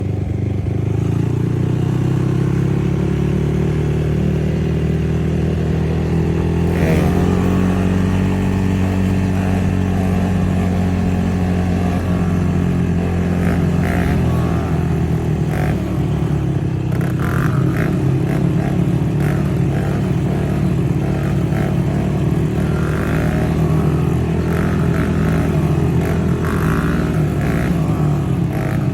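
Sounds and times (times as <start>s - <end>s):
atv engine revving: 0.0s - 28.9s.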